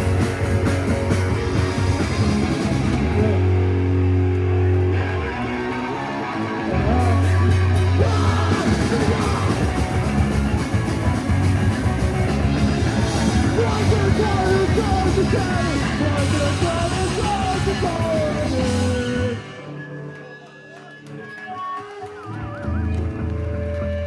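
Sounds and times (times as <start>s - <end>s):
yelled vocals: 0.0s - 19.9s
live rock band playing: 0.0s - 20.1s.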